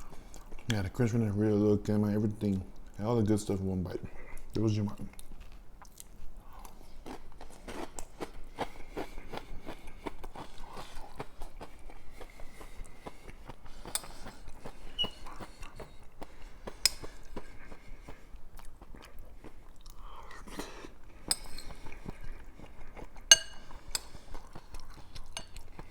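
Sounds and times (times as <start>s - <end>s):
chewing crunchy chips: 5.1s - 25.9s.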